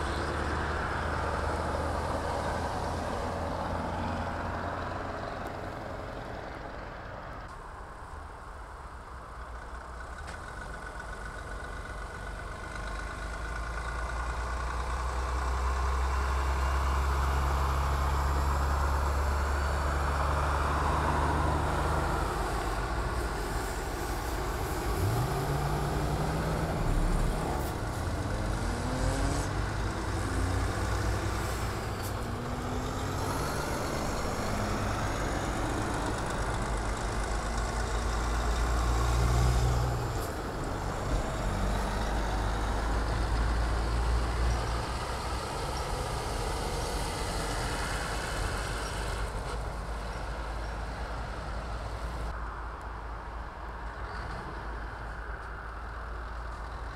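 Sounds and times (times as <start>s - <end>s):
heavy trucks driving past: 0.0s - 52.4s.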